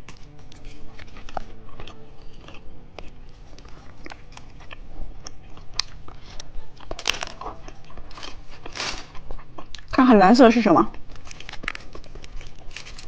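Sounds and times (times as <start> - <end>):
chewing and wet mouth sounds: 0.0 - 13.0.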